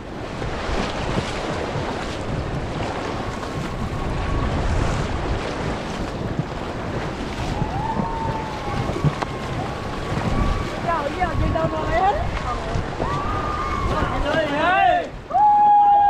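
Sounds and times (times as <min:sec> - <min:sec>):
river water rushing and splashing: 0:00.0 - 0:16.0
wind buffeting microphone: 0:00.0 - 0:16.0.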